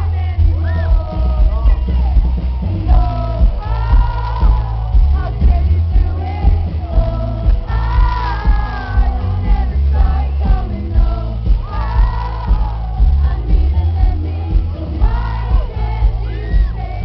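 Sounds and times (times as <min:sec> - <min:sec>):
live rock band playing: 0:00.0 - 0:17.0
woman singing: 0:00.0 - 0:17.0.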